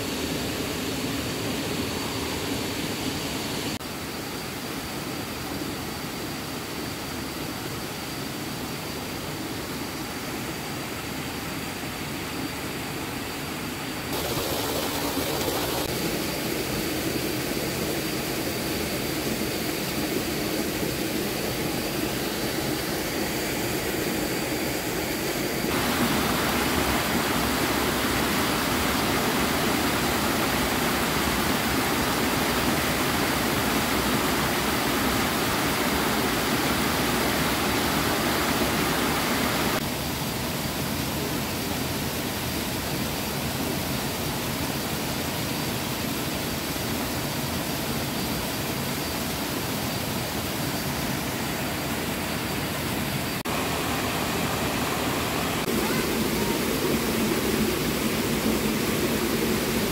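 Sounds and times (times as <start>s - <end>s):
flowing water rushing: 9.9s - 40.8s, 41.4s - 59.9s.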